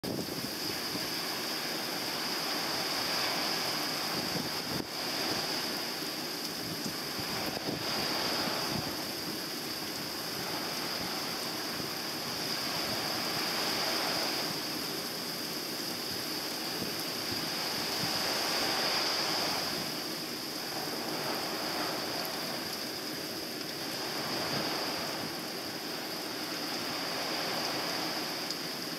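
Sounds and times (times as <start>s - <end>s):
rain falling hiss: 0.0s - 28.9s
surf breaking on beach: 0.0s - 28.9s.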